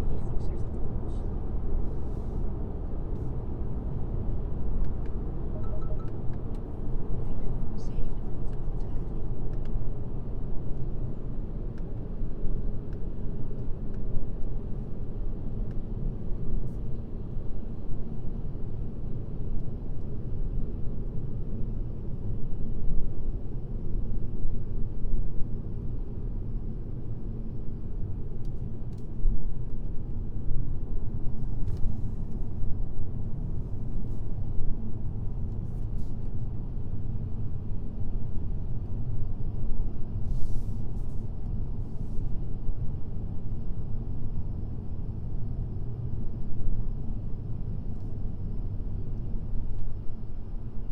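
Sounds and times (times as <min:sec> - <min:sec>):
road and tyre rumble: 0:00.0 - 0:23.8, 0:25.4 - 0:43.3.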